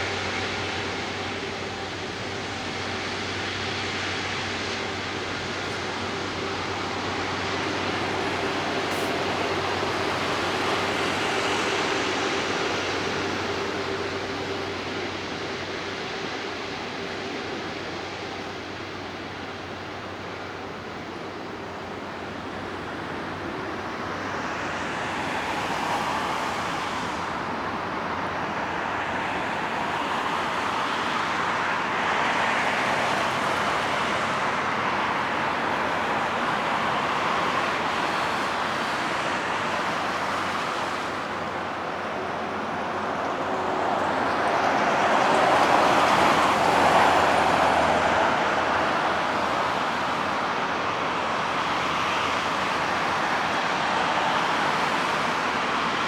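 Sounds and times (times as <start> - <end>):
jet engines rushing: 0.0 - 56.0.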